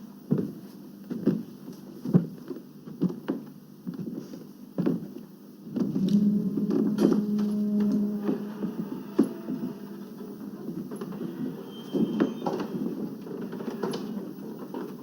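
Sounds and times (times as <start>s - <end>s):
steady low hum: 0.3s - 15.0s.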